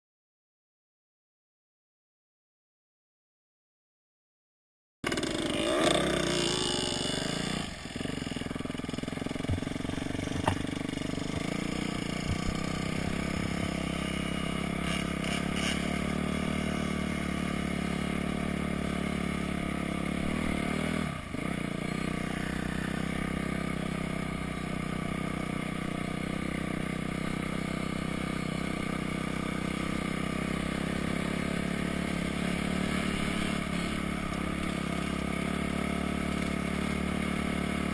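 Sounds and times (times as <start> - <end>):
dirt bike engine revving: 5.0 - 37.9.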